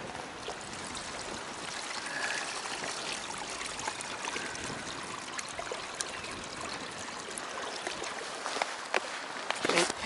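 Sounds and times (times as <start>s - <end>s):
fizzing bubbling water: 0.0s - 9.5s.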